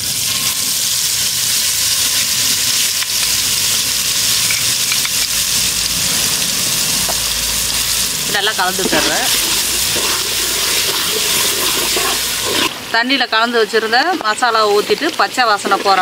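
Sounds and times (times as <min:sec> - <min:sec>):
spice paste sizzling in oil: 0:00.0 - 0:16.0.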